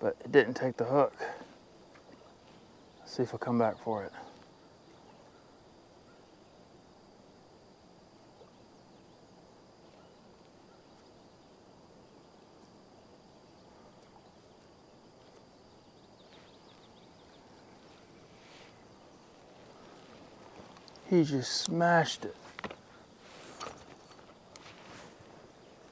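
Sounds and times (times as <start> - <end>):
low background hiss: 0.0 - 25.9
faint bird chirps: 1.4 - 6.8, 8.2 - 25.9.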